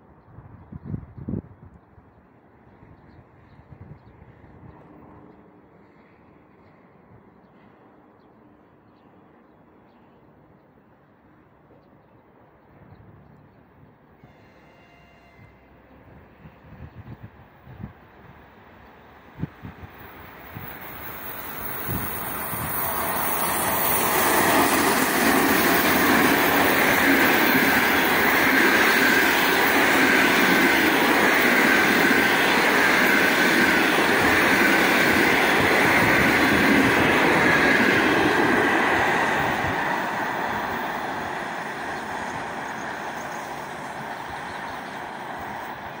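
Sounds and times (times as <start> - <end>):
train wheel and rail noise: 0.0 - 46.0.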